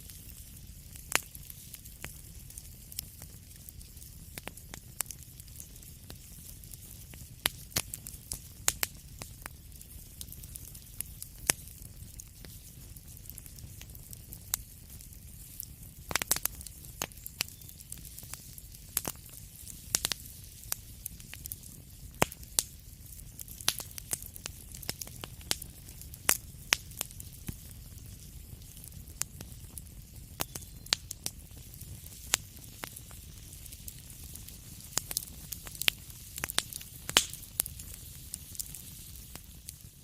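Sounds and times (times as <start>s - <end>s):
low rumble of fire: 0.0s - 40.0s
wood fire popping and snapping: 0.0s - 40.0s.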